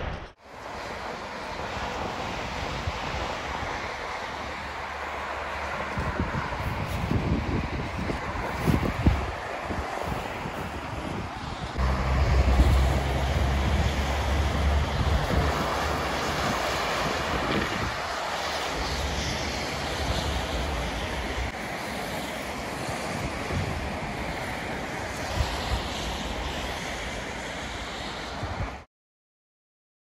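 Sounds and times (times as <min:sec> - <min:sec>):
distant road traffic: 0:00.0 - 0:28.9
wind buffeting microphone: 0:00.0 - 0:28.9.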